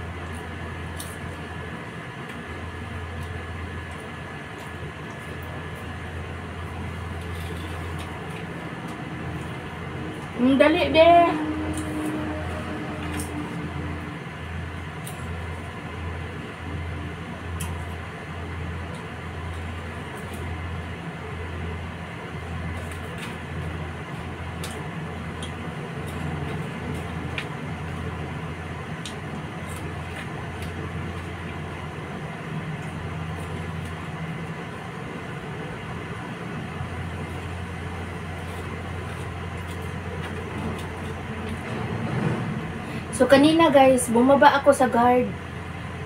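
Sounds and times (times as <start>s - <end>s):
low rumbling hum: 0.0s - 46.0s.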